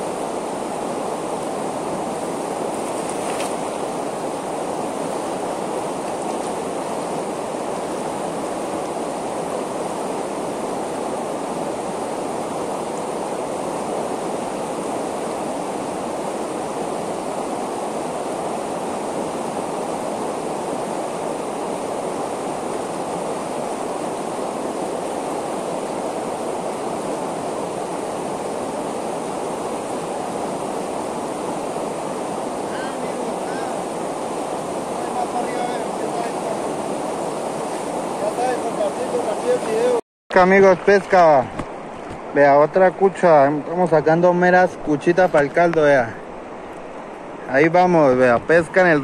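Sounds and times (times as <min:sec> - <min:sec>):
river rapids rushing over rocks: 0:00.0 - 0:49.0.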